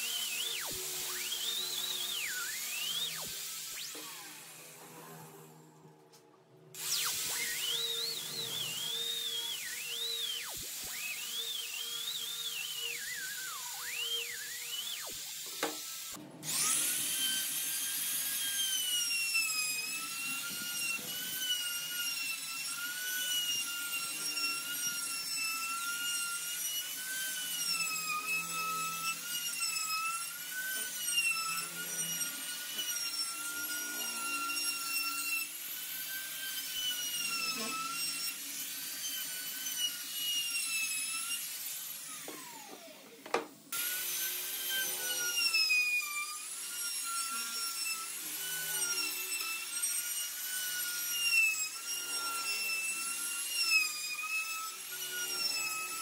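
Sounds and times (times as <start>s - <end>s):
power tool motor whine: 0.0s - 5.9s, 6.8s - 56.0s.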